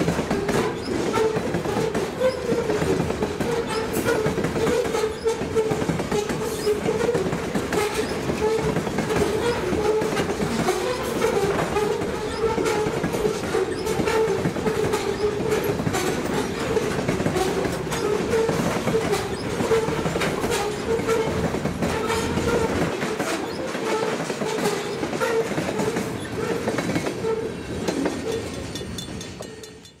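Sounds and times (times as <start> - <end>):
freight train rolling past: 0.0 - 30.0
wheels clicking over rail joints: 0.0 - 30.0.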